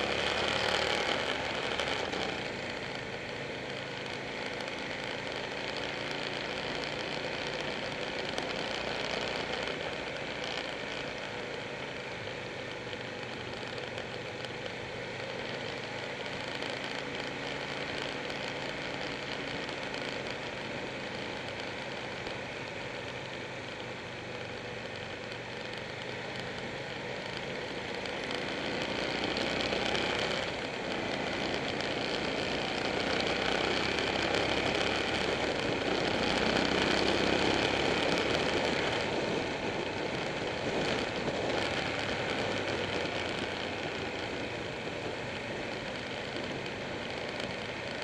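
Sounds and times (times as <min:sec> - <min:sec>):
motorcycle engine running: 0:00.0 - 0:48.0
wind and road rush: 0:00.0 - 0:48.0.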